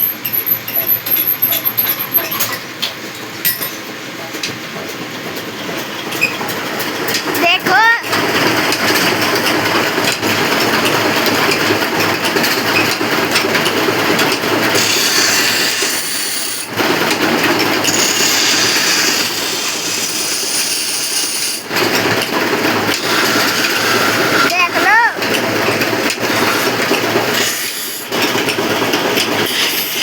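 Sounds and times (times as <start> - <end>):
workshop machinery clattering: 0.0 - 30.0.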